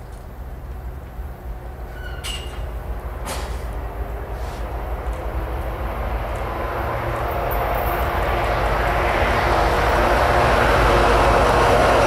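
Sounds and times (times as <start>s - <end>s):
locomotive engine drone: 0.0s - 12.0s
train running noise: 0.0s - 12.0s.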